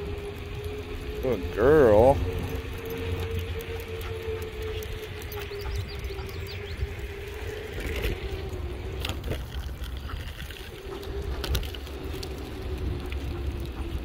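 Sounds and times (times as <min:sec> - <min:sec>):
wheels rumbling over pavement: 0:00.0 - 0:14.0.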